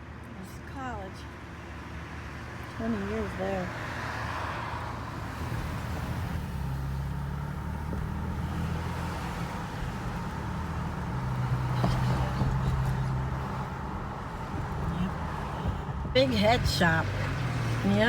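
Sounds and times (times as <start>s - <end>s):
road noise: 0.0s - 18.0s
truck engine hum: 0.7s - 18.0s.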